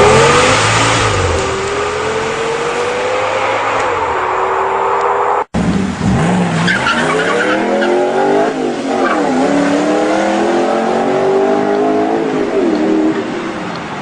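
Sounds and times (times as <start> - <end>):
car engine accelerating hard: 0.0 - 13.2.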